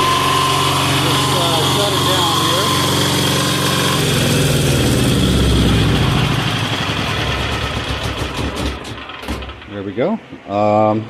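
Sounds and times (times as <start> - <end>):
single-cylinder diesel engine chuffing: 0.0 - 9.8.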